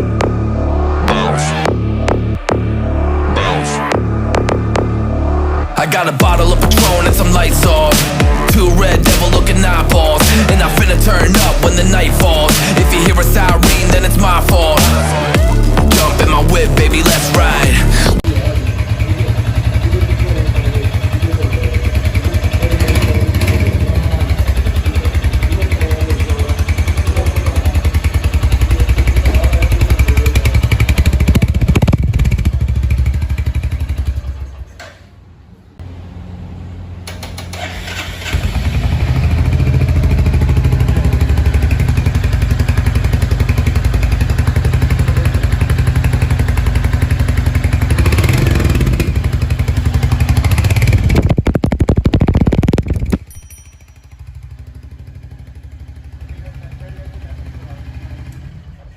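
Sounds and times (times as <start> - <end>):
motorcycle engine running: 3.9 - 35.0, 35.8 - 58.9.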